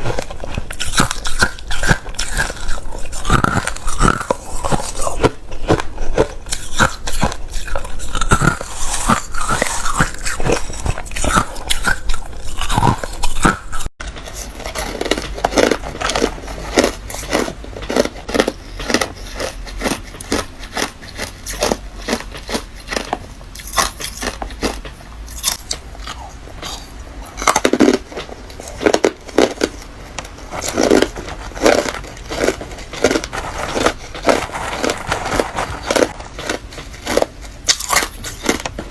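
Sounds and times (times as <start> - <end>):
person crunching ice: 0.0 - 38.7.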